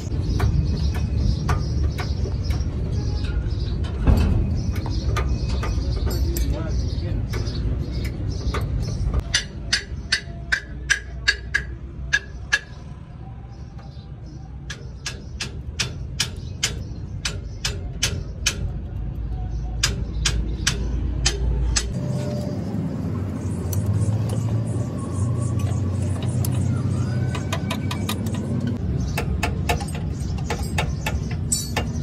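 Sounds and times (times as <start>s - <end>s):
sharp metal clicks: 0.3s - 12.8s, 14.6s - 22.4s, 25.6s - 32.0s.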